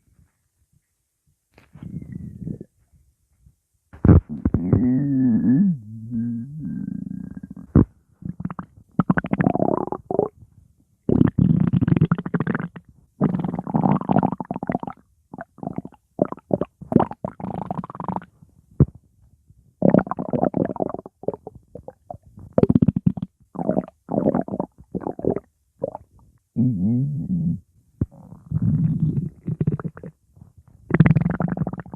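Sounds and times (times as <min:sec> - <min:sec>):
stomach growling: 0:04.0 - 0:10.4, 0:11.1 - 0:19.1, 0:19.8 - 0:31.9.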